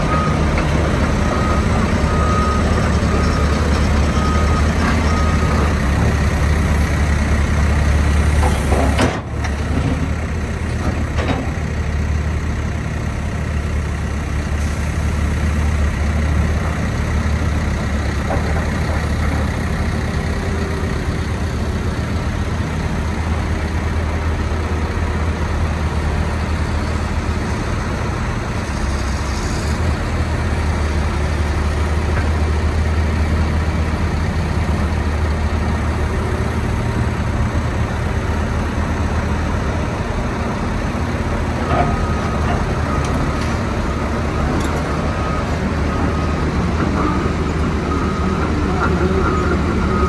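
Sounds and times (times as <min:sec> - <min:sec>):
excavator diesel engine droning: 0:00.0 - 0:50.0.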